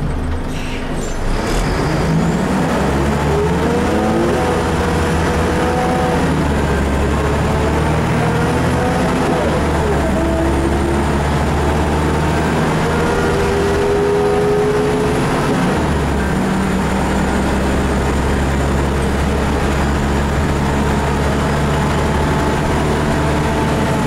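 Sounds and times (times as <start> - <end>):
bus diesel engine under load: 0.0 - 24.0.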